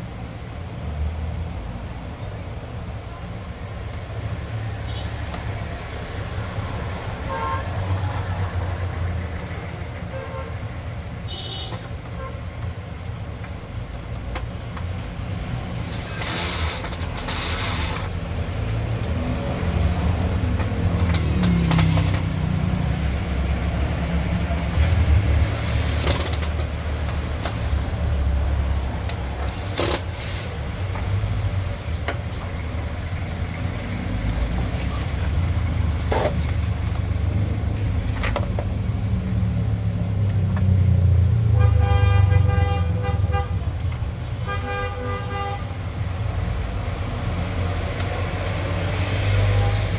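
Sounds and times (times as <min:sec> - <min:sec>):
passing traffic rumble: 0:00.0 - 0:49.9.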